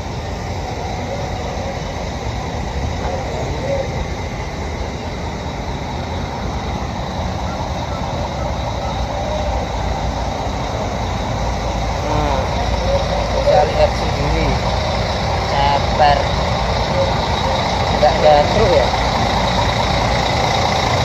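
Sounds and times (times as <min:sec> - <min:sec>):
engines rumbling: 0:00.0 - 0:21.0.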